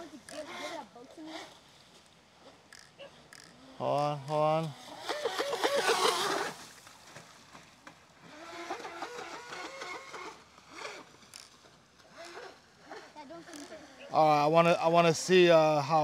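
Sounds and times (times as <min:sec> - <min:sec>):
boat motor whining: 0:00.0 - 0:16.0.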